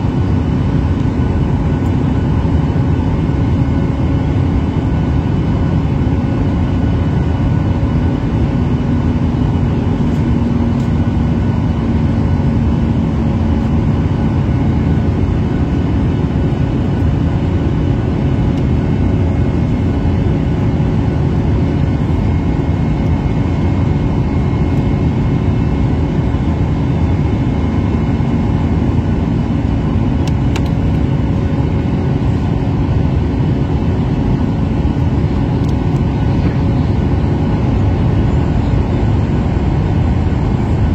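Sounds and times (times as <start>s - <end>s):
airliner engines droning: 0.0s - 40.9s.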